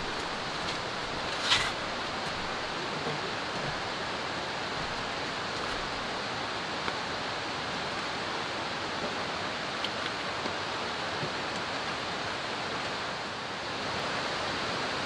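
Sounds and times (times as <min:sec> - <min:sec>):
forest stream rushing: 0:00.0 - 0:15.0
light drizzle: 0:00.0 - 0:15.0.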